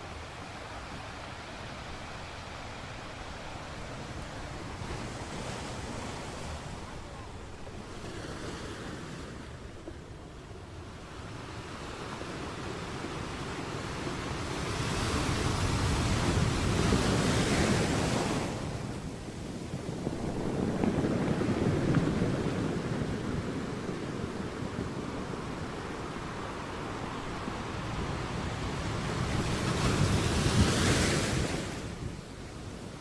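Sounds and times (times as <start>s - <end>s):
waves breaking and washing in: 0.0s - 33.0s
wind noise: 0.0s - 33.0s.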